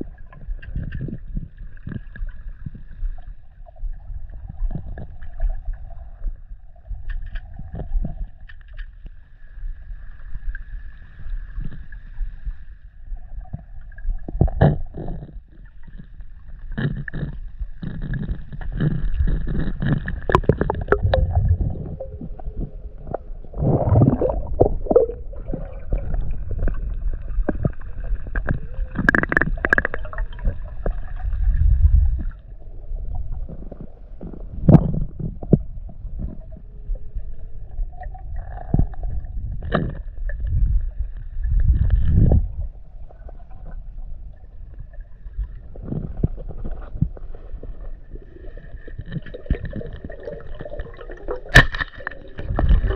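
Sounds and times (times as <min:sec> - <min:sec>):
underwater knocks and clicks: 0:00.0 - 0:09.3, 0:13.3 - 0:52.9
underwater rumbling and bubbling: 0:00.0 - 0:52.9.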